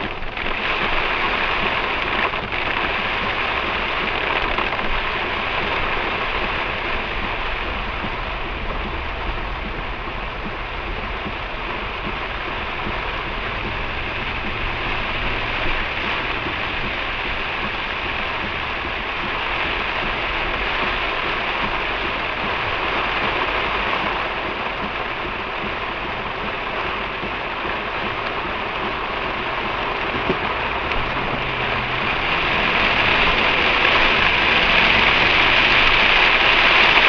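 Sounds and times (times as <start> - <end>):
heavy rain on car: 0.0 - 37.0
tyre spray on wet road: 0.0 - 37.0.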